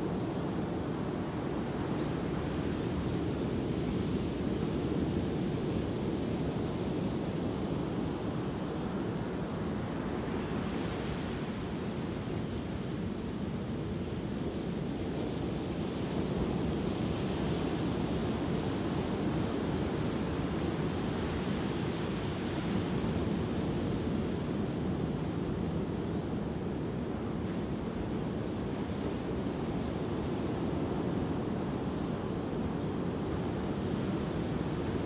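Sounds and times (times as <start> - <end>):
ocean surf on sandy beach: 0.0 - 35.0.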